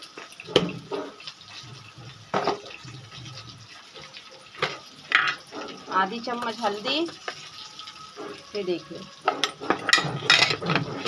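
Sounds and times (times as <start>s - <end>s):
metal spoon scraping pan: 0.3s - 11.0s.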